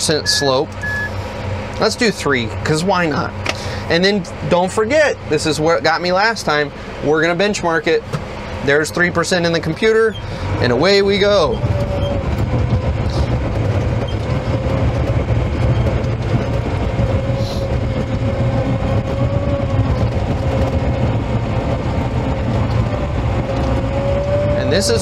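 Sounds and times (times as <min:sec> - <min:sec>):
diesel engine rumbling: 0:00.0 - 0:25.0
steady engine whine: 0:00.0 - 0:25.0.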